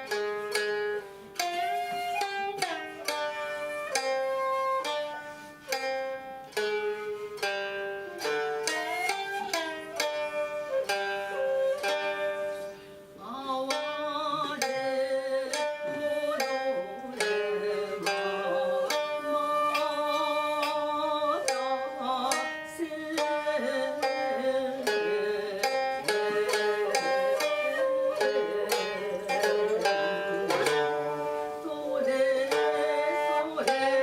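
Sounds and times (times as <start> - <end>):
plucked string notes: 0.0 - 34.0.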